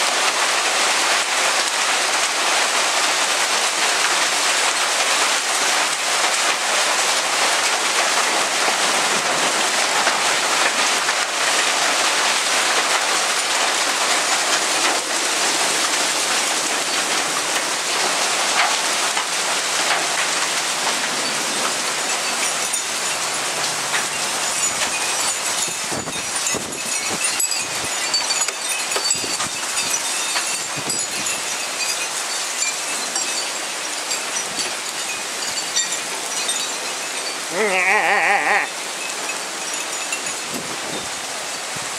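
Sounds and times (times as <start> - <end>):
hailstones pelting down: 0.1 - 40.0.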